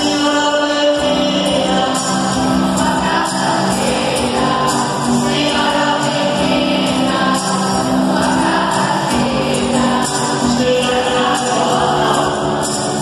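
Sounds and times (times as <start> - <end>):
group of voices singing: 0.0 - 13.0
musical accompaniment: 0.0 - 13.0.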